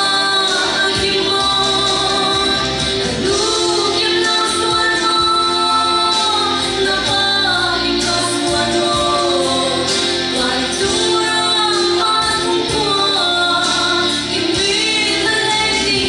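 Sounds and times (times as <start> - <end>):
woman singing into a microphone: 0.0 - 16.0.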